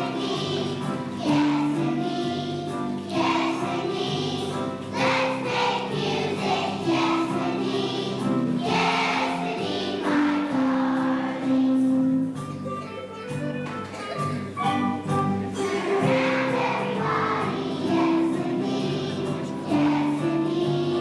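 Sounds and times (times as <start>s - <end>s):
children's choir singing: 0.0s - 12.4s, 15.0s - 21.0s
musical accompaniment: 0.0s - 21.0s.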